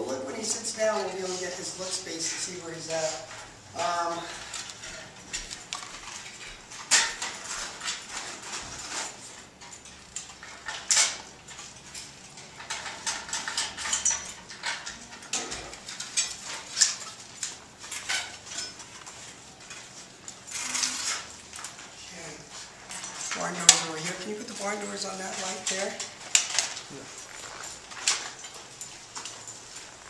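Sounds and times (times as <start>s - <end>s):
gear clicks and metallic clinks: 0.3s - 30.0s.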